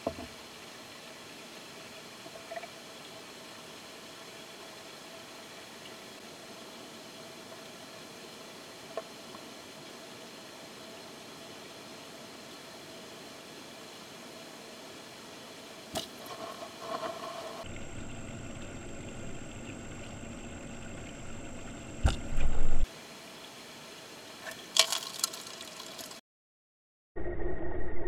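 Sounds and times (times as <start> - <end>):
muffled underwater hiss: 0.0 - 26.2.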